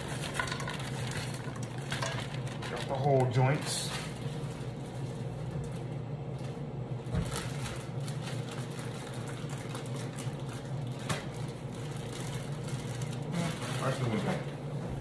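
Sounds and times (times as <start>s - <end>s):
low kitchen hum: 0.0s - 15.0s.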